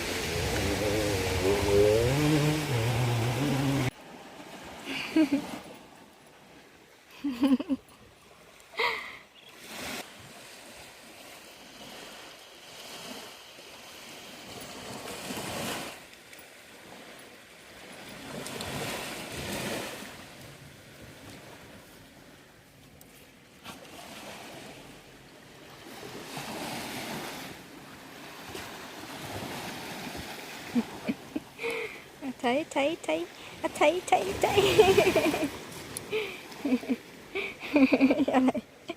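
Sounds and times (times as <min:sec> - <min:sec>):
sea waves on sandy beach: 0:00.0 - 0:38.9.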